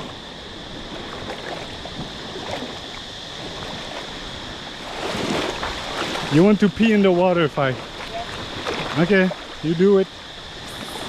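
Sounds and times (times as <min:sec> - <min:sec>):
sea water lapping and sloshing: 0:00.0 - 0:11.0
small splashes: 0:00.8 - 0:11.0.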